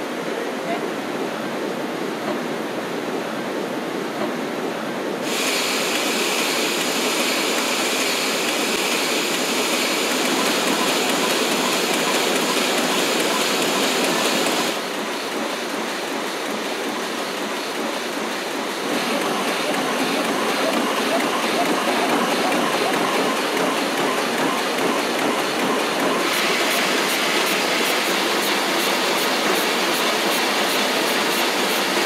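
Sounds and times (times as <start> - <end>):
printing machinery rushing: 5.2 - 32.0.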